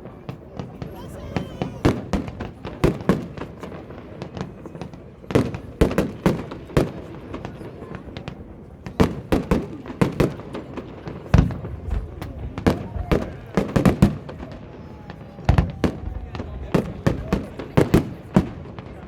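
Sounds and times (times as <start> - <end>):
fireworks banging: 0.0 - 19.0.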